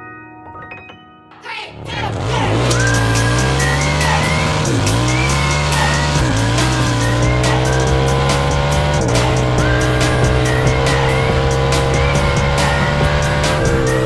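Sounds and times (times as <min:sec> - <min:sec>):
small engine revving through gears: 0:02.1 - 0:14.0.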